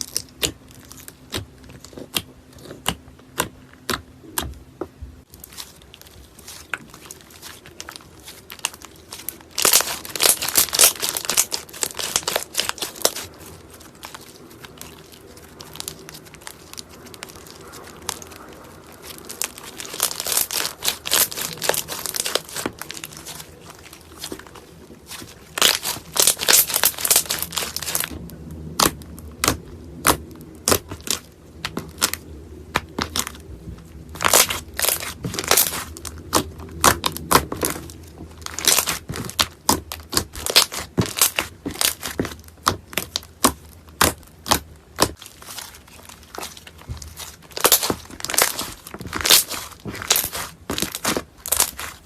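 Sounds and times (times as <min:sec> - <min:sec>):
slime crackling and popping: 0:00.0 - 0:52.0.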